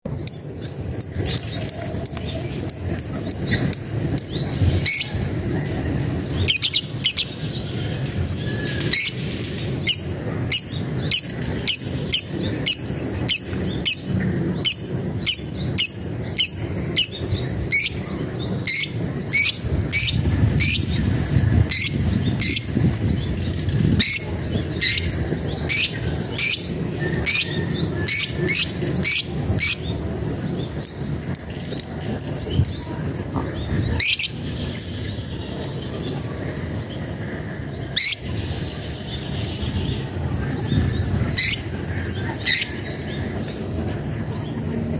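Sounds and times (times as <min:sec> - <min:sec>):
high insect drone: 0:00.1 - 0:44.9.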